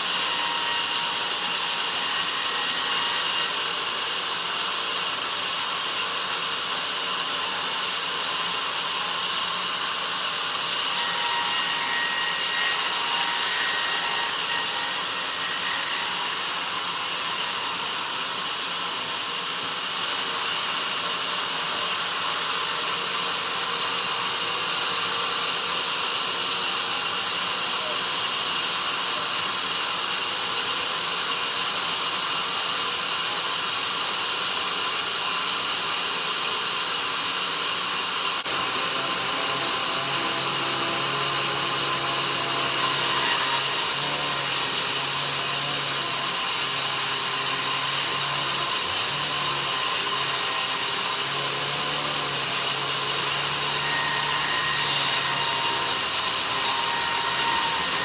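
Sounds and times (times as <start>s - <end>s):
bandsaw cutting through log: 0.0s - 28.0s, 29.2s - 58.0s.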